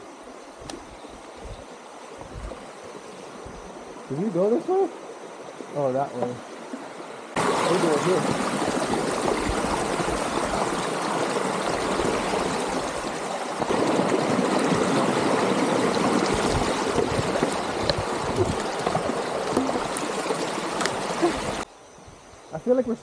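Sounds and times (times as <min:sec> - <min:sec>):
stream water rushing: 0:00.0 - 0:21.7.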